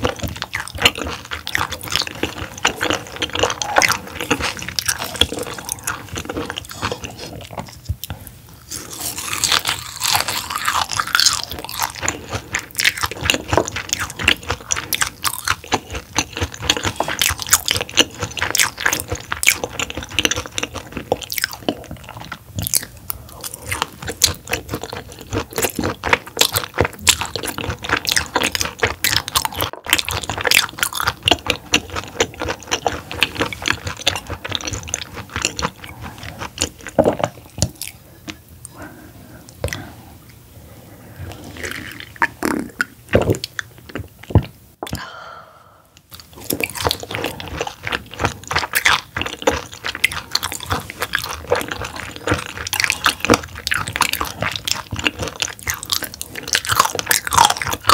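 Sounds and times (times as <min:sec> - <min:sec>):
crunching and wet clicking: 0:00.0 - 0:38.8, 0:46.0 - 0:57.9
chewing raw fish: 0:00.0 - 0:40.4, 0:41.2 - 0:45.2, 0:46.0 - 0:57.9.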